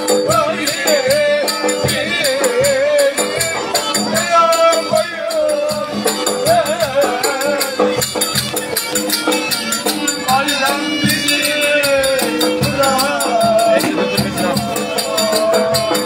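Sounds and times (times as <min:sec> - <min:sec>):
ornamented folk melody: 0:00.0 - 0:16.0.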